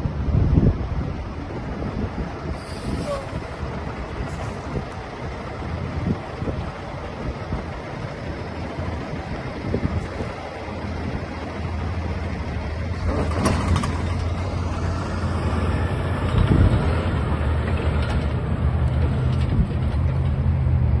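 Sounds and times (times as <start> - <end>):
diesel truck engine droning: 0.0 - 21.0
tires on gravel: 0.0 - 21.0.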